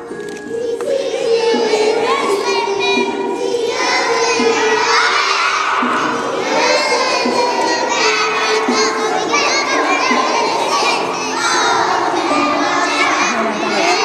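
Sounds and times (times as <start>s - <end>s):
children shouting and yelling: 0.5s - 14.0s.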